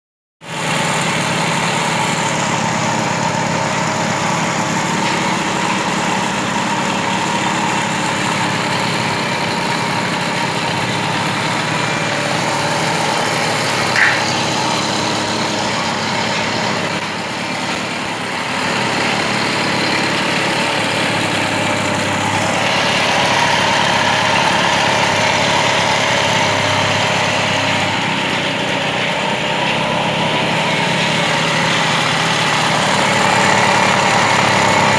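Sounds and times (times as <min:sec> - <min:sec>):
moped engine idling: 0:00.5 - 0:34.9.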